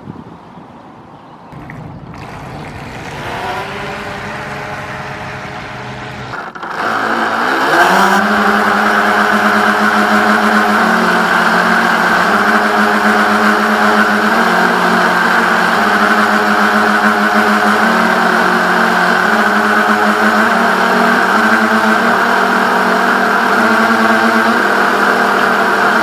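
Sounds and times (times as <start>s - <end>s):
electric boat motors humming: 1.6s - 26.0s.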